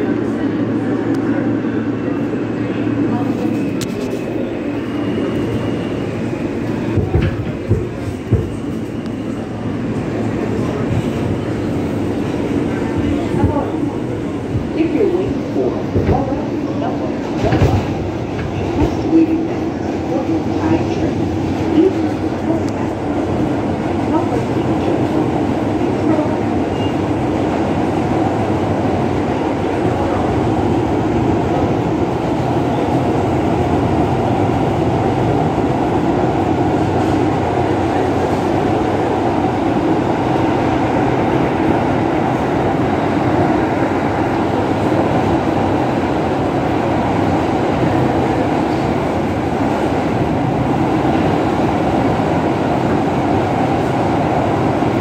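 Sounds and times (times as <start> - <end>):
subway train car rumbling and rattling: 0.0 - 55.0.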